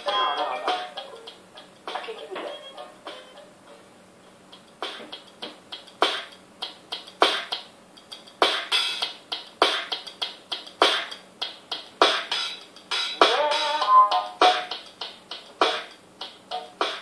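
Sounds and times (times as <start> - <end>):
music with steady drum beat: 0.0 - 17.0.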